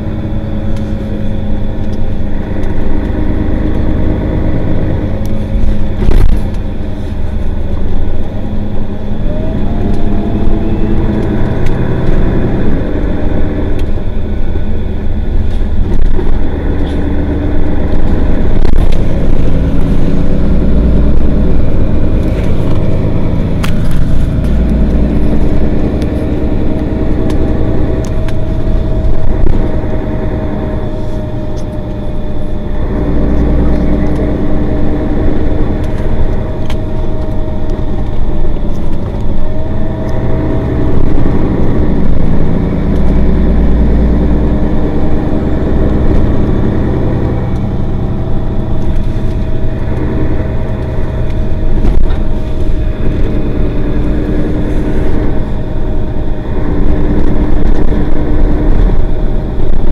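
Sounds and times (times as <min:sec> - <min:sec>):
bus diesel engine: 0:00.0 - 0:59.9
steady whine: 0:00.0 - 0:59.9.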